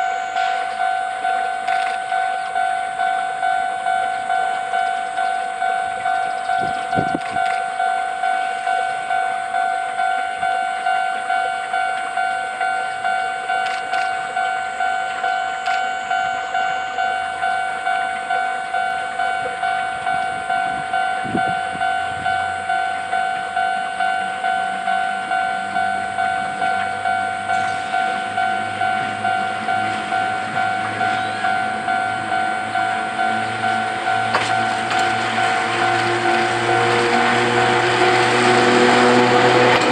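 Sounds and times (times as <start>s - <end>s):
level-crossing bell ringing: 0.0s - 39.9s
train wheels rumbling on rails: 0.0s - 39.9s.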